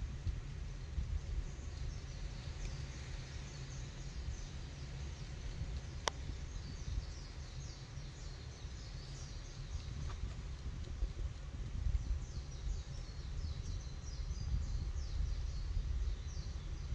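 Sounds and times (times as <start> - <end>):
wind rumbling on microphone: 0.0 - 16.9.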